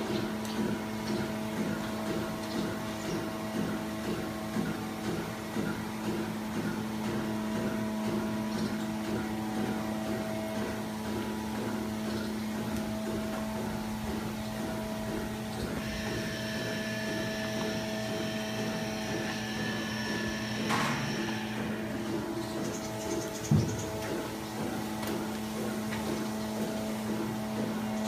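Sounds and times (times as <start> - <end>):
cooling system mechanical hum: 0.0 - 28.0.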